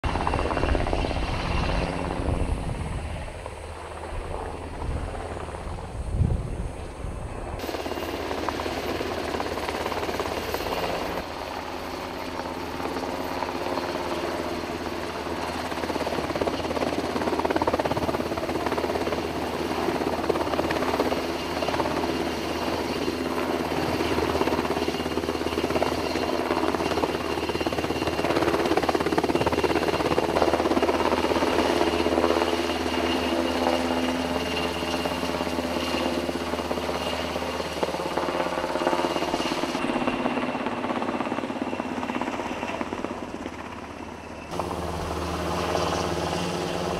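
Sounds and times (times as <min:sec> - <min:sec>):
helicopter hovering: 0:00.0 - 0:46.9.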